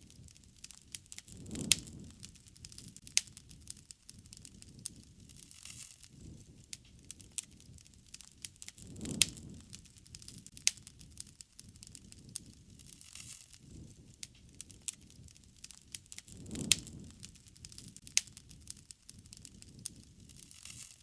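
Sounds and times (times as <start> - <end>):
burning wood popping: 0.0 - 21.0
campfire crackling: 0.0 - 21.0
low rumble of flame: 0.0 - 21.0.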